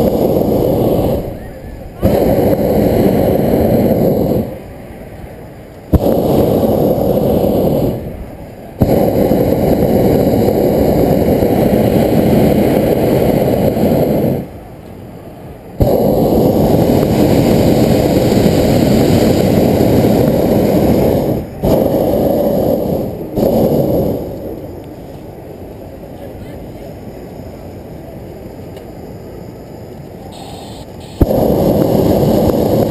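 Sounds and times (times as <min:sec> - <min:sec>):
propane burner blasts: 0:00.0 - 0:32.9.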